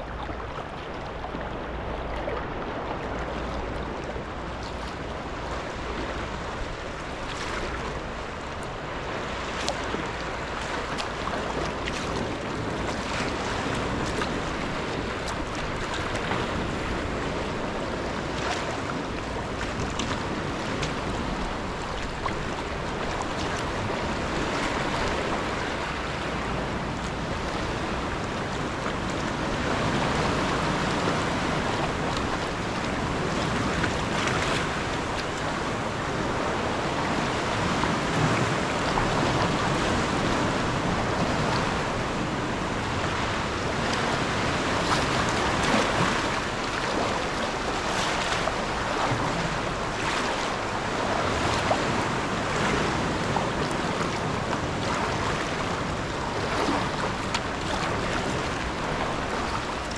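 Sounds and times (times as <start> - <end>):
paddle splashes: 0.0 - 59.9
sea water sloshing against rocks: 0.0 - 59.9
wind on microphone: 0.0 - 59.9.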